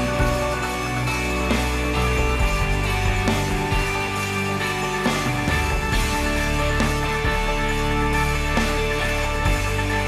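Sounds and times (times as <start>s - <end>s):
background music with held chords: 0.0s - 10.0s.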